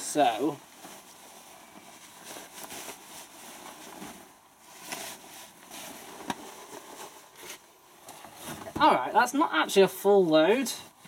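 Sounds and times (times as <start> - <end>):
fabric rustling: 0.0 - 9.0.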